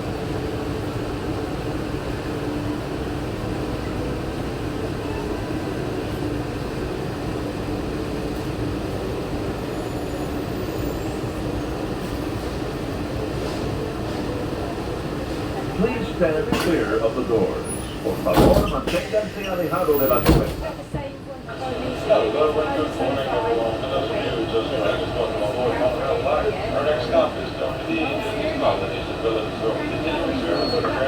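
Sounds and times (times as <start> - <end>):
monorail car hum and rumble: 0.0 - 31.0.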